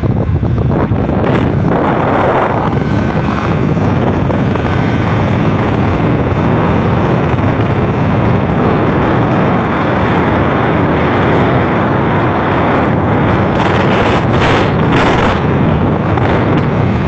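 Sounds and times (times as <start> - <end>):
vehicles travelling at speed: 0.0 - 17.0
wind buffeting microphone: 0.0 - 17.0.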